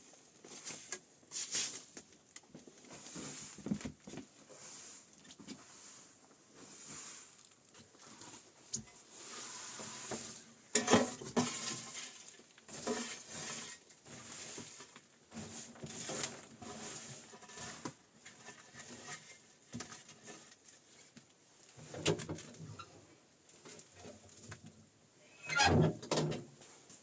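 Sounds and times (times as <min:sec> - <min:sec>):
objects rustling and clattering: 0:00.0 - 0:24.9.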